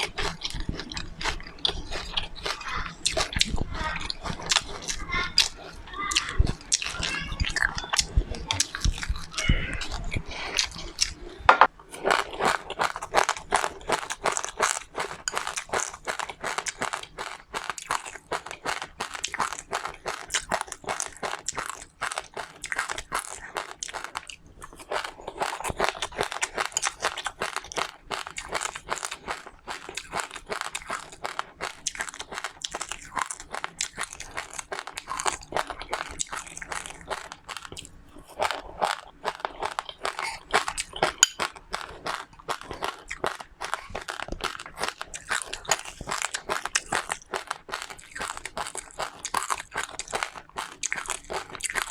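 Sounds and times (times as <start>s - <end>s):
chewing and crunching seeds: 0.0s - 51.9s.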